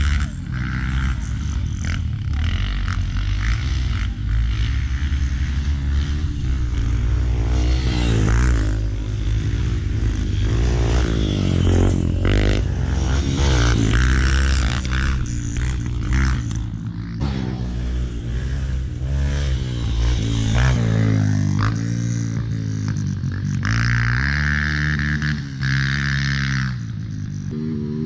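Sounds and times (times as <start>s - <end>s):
steady low rumble: 0.0s - 22.9s
dirt bike engines revving: 0.0s - 28.0s.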